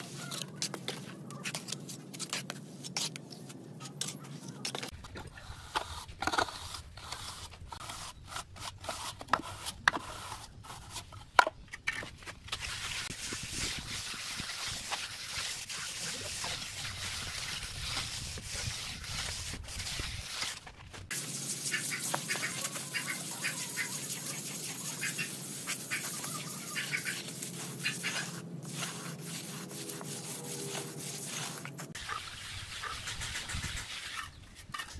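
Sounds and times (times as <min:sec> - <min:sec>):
trowel scraping wet cement: 0:03.8 - 0:34.9.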